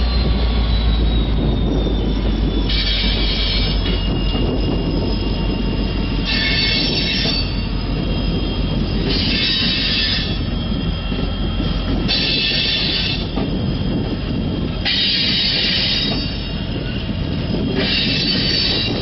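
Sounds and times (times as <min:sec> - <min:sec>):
railroad cars rumbling: 0:00.0 - 0:19.0
train wheels squealing: 0:00.0 - 0:19.0.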